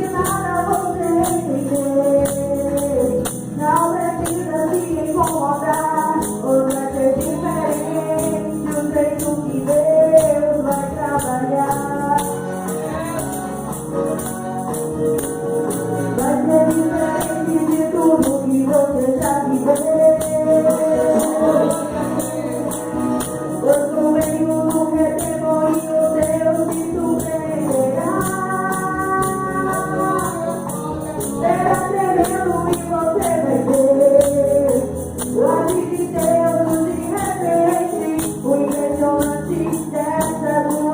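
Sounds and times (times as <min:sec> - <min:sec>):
gospel singing: 0:00.0 - 0:40.9
tambourine shaking: 0:00.0 - 0:40.9.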